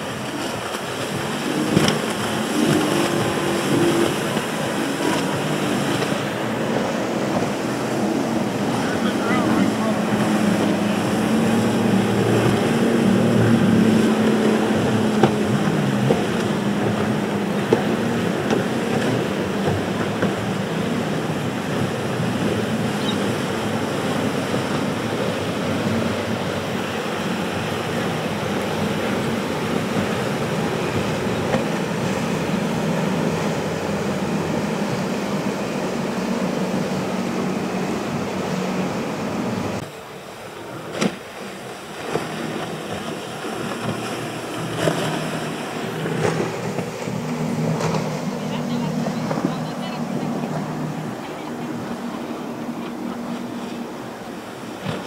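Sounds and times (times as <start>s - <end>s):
motorboat engines running: 0.0s - 55.0s
waves breaking: 0.0s - 55.0s.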